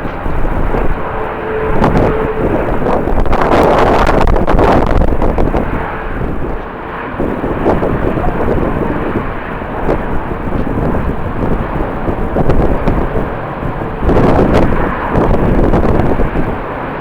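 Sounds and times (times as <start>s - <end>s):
jet engine noise: 0.0s - 17.0s
wind buffeting microphone: 0.0s - 17.0s.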